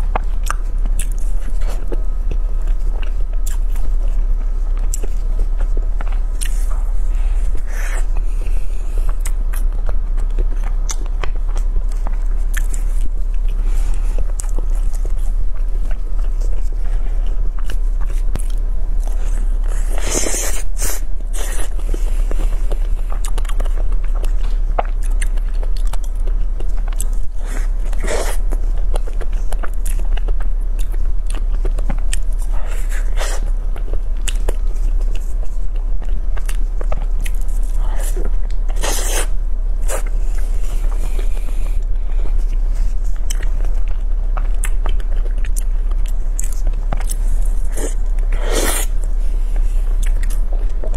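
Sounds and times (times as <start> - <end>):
chewing crisp pastry: 0.0 - 50.9
steady low hum: 0.0 - 50.9.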